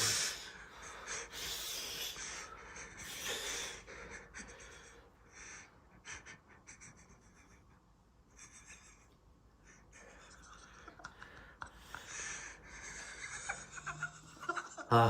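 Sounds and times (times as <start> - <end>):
person panting: 0.0 - 13.7.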